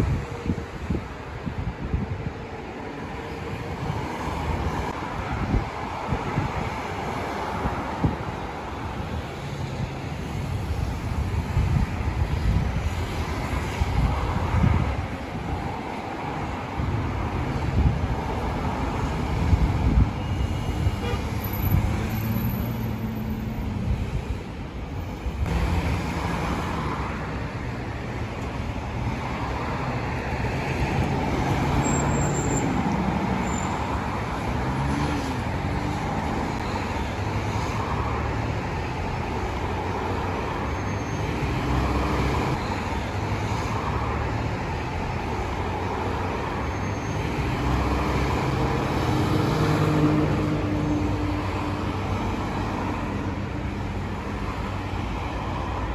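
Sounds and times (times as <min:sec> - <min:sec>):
steady roadway noise: 0:00.0 - 0:55.9
vehicles passing: 0:00.0 - 0:55.9.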